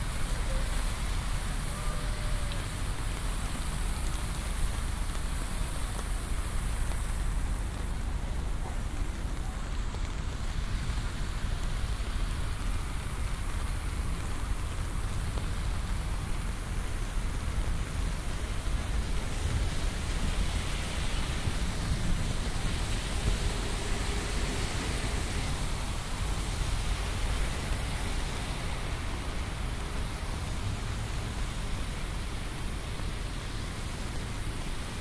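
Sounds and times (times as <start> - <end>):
city traffic rumble: 0.0 - 35.0
rain hissing: 0.0 - 35.0.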